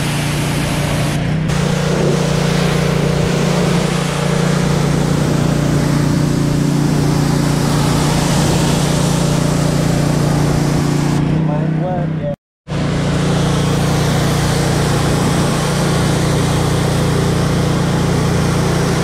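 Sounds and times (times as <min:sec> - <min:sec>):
water jet hissing: 0:00.0 - 0:11.2, 0:12.7 - 0:19.0
pressure washer motor hum: 0:00.0 - 0:11.6, 0:12.7 - 0:19.0.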